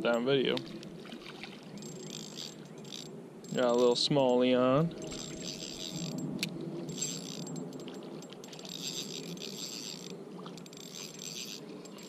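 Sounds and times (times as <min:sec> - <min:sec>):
fishing reel rattling: 0:01.7 - 0:04.4, 0:05.0 - 0:12.0.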